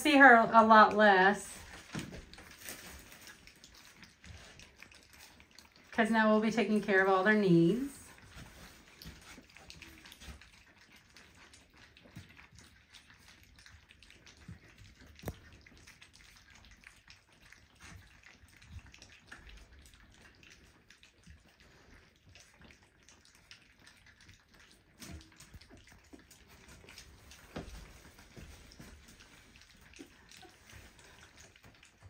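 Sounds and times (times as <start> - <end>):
puppies lapping wet food: 0.0 - 32.0.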